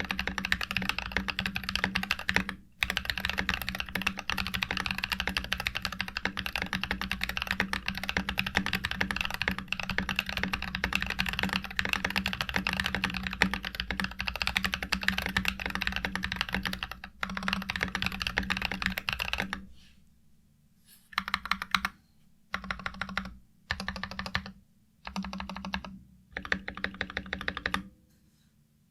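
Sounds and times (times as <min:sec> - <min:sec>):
typing on mechanical keyboard: 0:00.0 - 0:19.6, 0:21.2 - 0:27.9.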